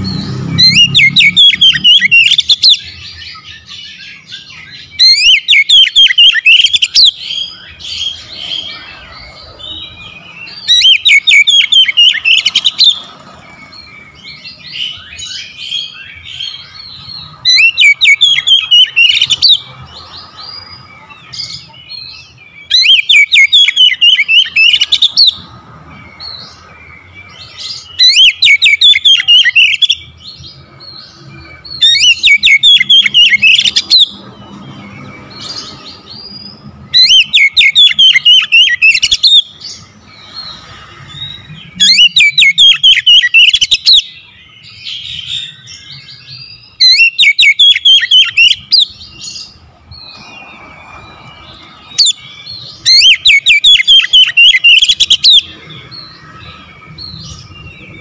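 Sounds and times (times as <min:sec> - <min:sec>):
bird chirps and twitters: 0:00.0 - 0:58.0.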